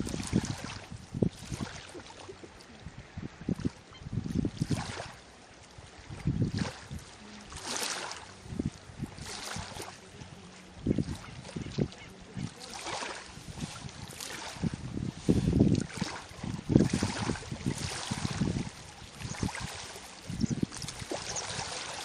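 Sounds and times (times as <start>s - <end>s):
water lapping and splashing: 0.0s - 22.0s.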